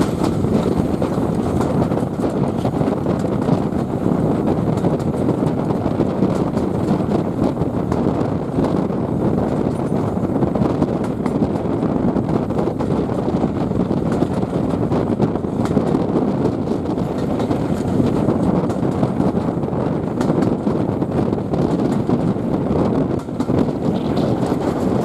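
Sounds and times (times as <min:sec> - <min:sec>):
train carriage rumbling on track: 0:00.0 - 0:25.0
wind noise on microphone: 0:00.0 - 0:25.0.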